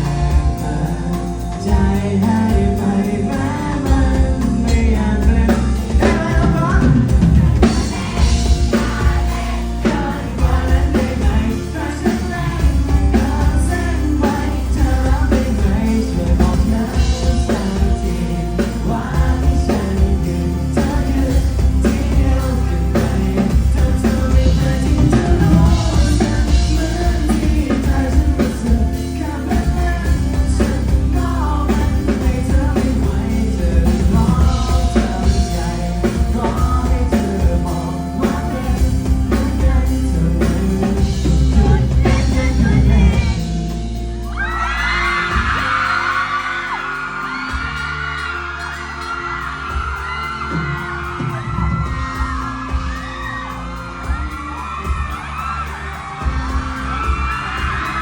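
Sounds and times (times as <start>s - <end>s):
heavy bass line: 0.0s - 58.0s
live pop band: 0.0s - 58.0s
person singing: 0.0s - 58.0s
audience screaming and cheering: 3.3s - 58.0s.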